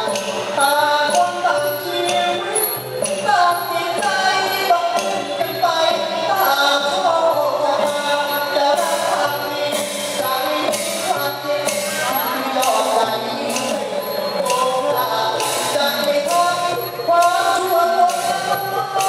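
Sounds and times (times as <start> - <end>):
instrumental accompaniment: 0.0 - 19.0
person singing: 0.0 - 19.0.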